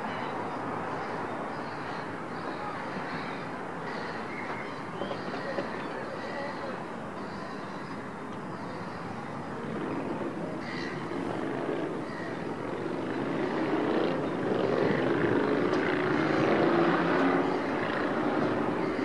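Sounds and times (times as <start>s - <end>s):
distant engine drone: 0.0s - 19.0s.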